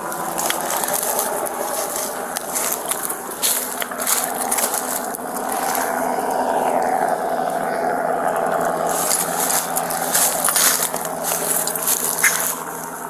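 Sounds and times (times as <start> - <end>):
footsteps crunching dry leaves: 0.0 - 6.8, 8.7 - 13.0
steady mechanical drone: 0.0 - 13.0.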